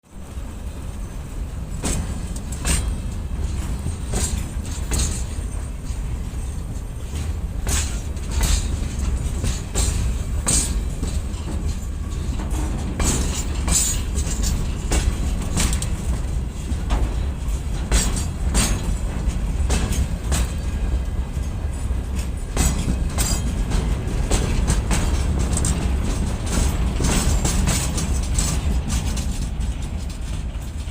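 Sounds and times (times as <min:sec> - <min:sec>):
low rumble of moving train: 0:00.0 - 0:30.9
train wheels clattering over rail joints: 0:00.1 - 0:30.9.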